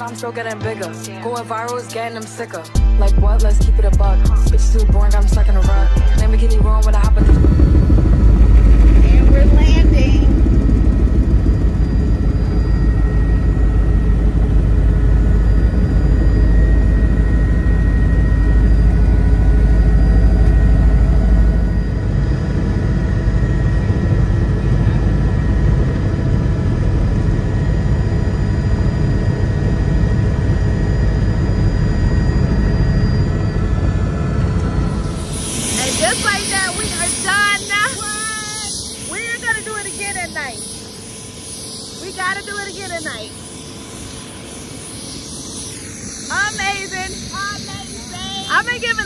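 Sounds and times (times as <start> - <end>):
helicopter rotor rumble: 0.0 - 49.0
high turbine whine: 0.0 - 49.0.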